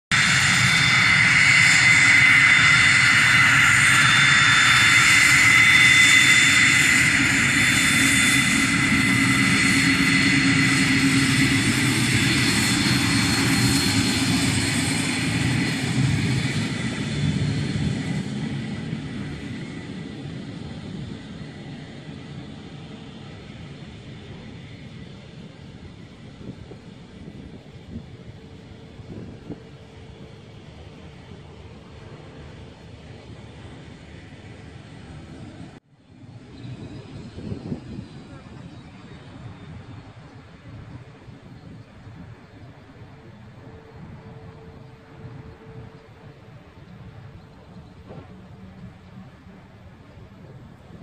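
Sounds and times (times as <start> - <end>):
jet engines whining: 0.1 - 51.0.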